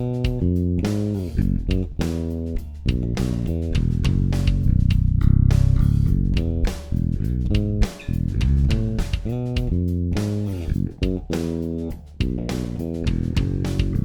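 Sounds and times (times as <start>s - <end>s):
plucked bass guitar: 0.0s - 14.0s.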